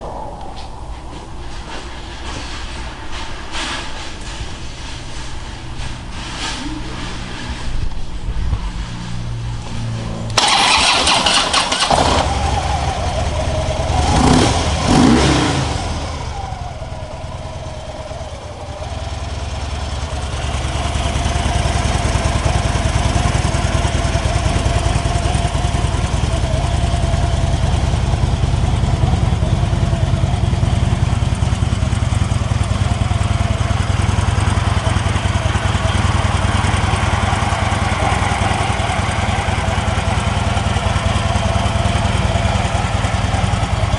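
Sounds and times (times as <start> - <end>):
motorcycle engine revving and idling: 0.9 - 43.9.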